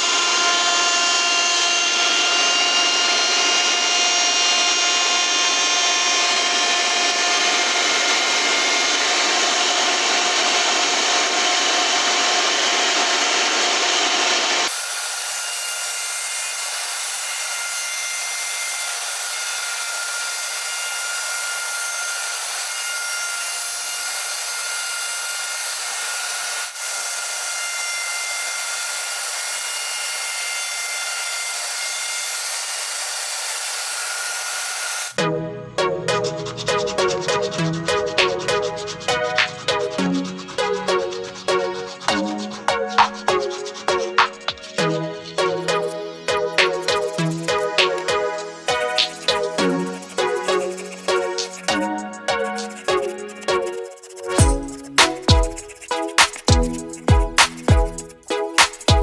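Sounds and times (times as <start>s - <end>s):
power tool whining on wood: 0.0s - 35.2s, 36.5s - 55.3s.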